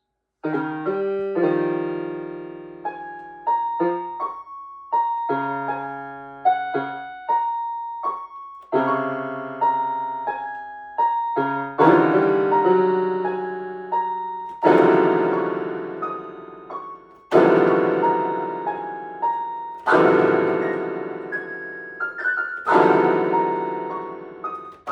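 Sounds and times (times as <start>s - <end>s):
piano music: 0.4s - 24.9s
loud thick piano chords: 0.5s - 4.4s, 5.0s - 24.9s.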